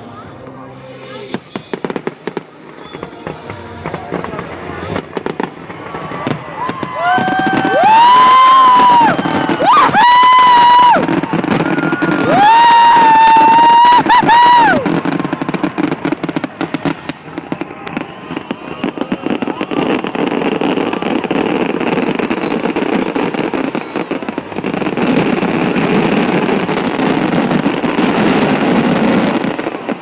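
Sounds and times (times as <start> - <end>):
fireworks crackling pops: 0.9 - 30.0.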